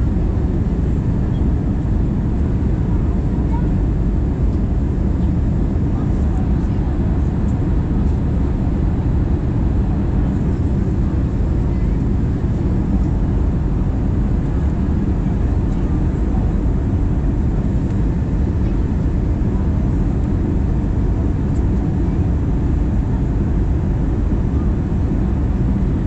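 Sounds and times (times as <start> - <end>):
jet engine and airflow rumble: 0.0 - 26.0.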